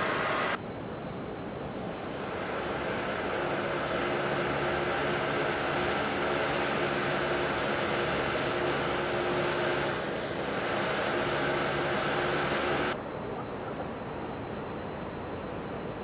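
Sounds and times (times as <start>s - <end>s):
machinery droning hum: 0.0s - 16.0s.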